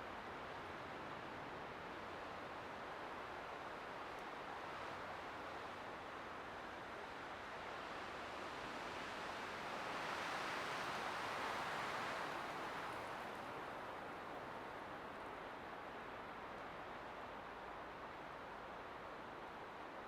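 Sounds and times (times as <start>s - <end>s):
wind through pine trees: 0.0s - 20.0s.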